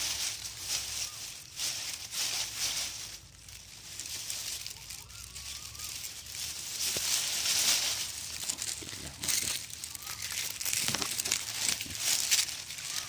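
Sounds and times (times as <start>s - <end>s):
dry grass and leaves rustling: 0.0s - 13.0s.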